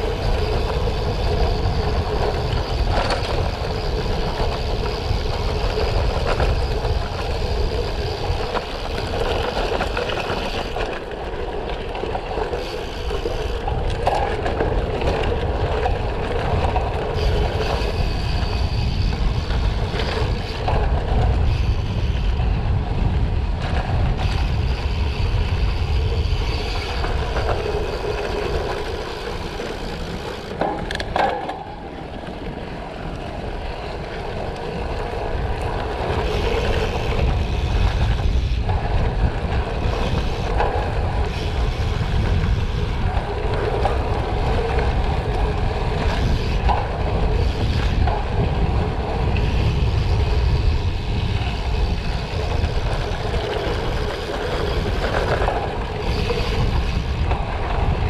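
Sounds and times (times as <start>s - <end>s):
bike tyres rolling on gravel: 0.0s - 58.0s
wind on microphone: 0.0s - 58.0s.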